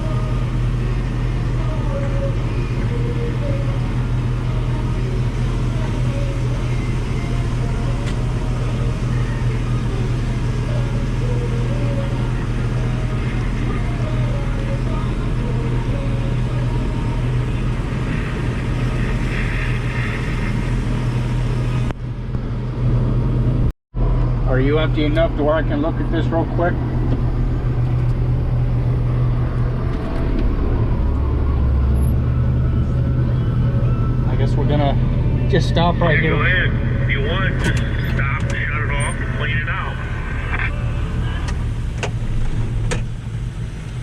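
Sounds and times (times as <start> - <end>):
combine harvester engine drone: 0.0 - 44.0.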